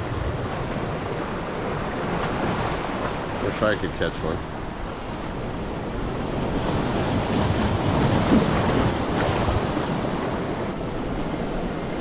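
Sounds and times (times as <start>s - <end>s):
ocean surf on rocks: 0.0s - 12.0s.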